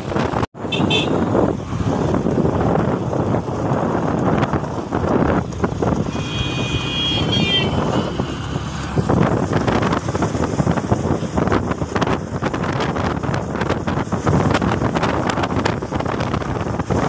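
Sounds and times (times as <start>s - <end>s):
motorbike riding at speed: 0.0s - 17.0s
wind buffeting microphone: 0.0s - 17.0s.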